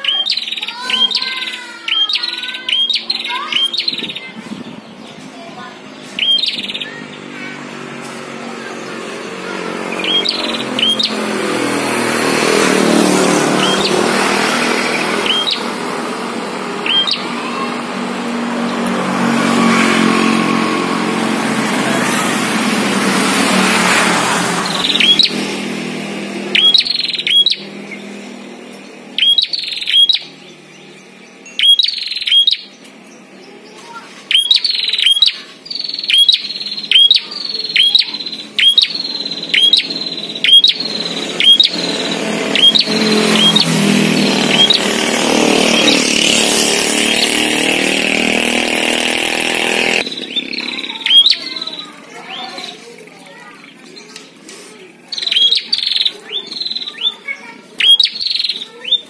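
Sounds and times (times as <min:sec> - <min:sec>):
bird calling sharp high notes: 0:00.0 - 0:54.4, 0:55.0 - 0:59.0
passing motor vehicle: 0:00.0 - 0:59.0.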